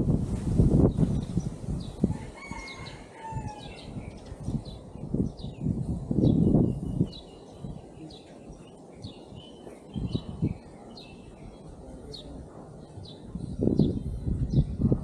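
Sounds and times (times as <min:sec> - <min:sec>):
small birds chirping: 0:00.8 - 0:15.0.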